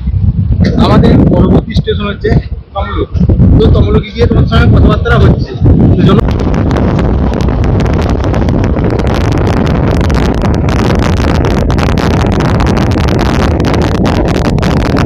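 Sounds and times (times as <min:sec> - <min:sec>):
train rumbling on rails: 0:00.0 - 0:15.0
wind rushing over microphone: 0:00.0 - 0:15.0.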